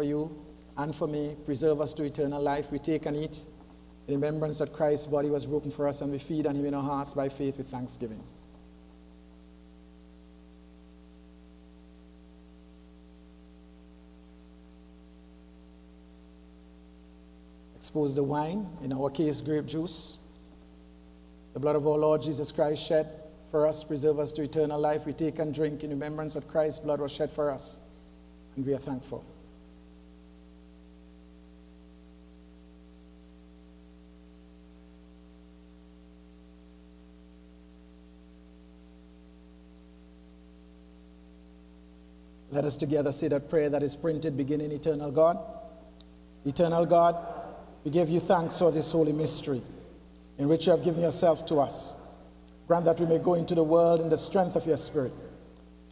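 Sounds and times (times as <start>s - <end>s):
electrical mains hum: 0.0s - 55.9s.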